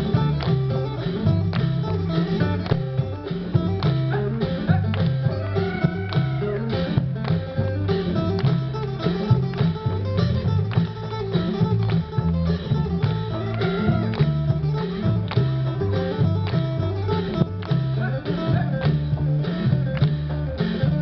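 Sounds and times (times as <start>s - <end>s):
low bass notes: 0.0s - 21.0s
percussive beat: 0.0s - 21.0s
plucked string melody: 0.0s - 21.0s.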